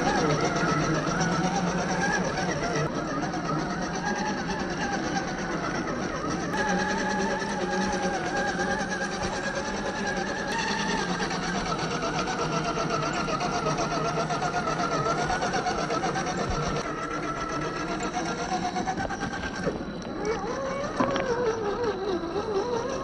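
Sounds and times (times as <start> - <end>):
electric motor and gears whining: 0.0 - 23.0.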